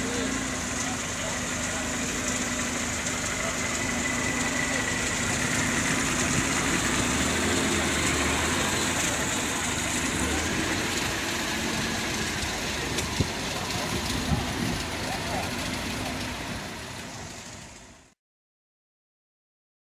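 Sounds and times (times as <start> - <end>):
car engine idling: 0.0 - 18.2.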